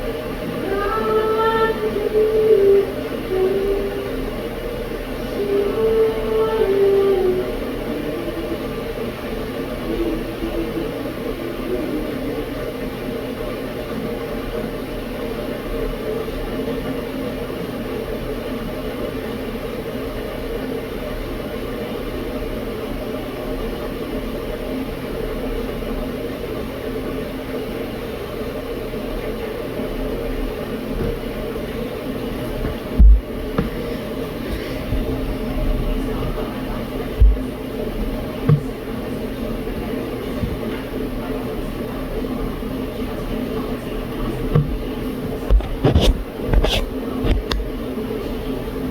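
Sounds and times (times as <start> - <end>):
kettle heating water hum: 0.0 - 48.9.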